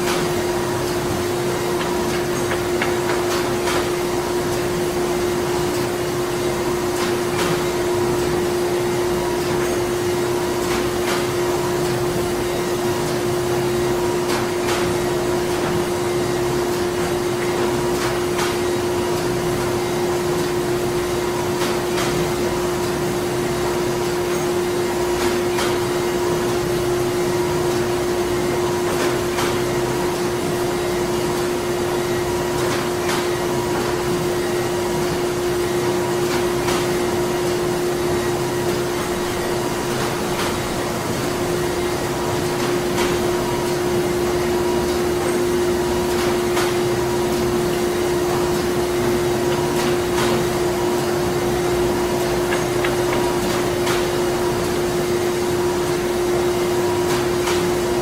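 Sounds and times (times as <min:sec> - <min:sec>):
printing machinery hum: 0:00.0 - 0:58.0.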